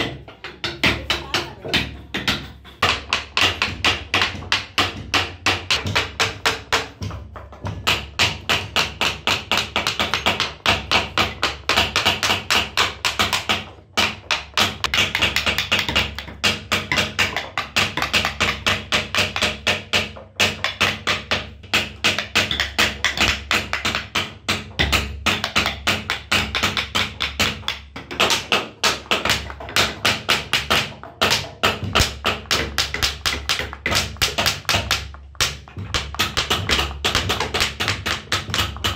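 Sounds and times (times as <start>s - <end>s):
mallet tapping chisel: 0.0s - 38.9s.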